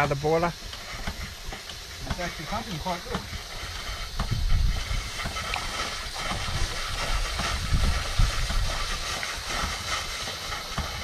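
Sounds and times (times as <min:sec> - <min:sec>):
steam hissing: 0:00.0 - 0:11.0
steam pump low thuds: 0:00.0 - 0:11.0.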